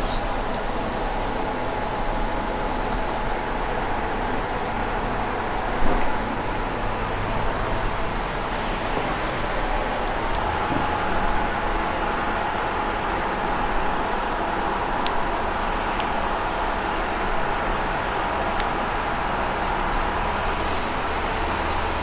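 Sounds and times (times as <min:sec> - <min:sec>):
rushing background noise: 0:00.0 - 0:22.0.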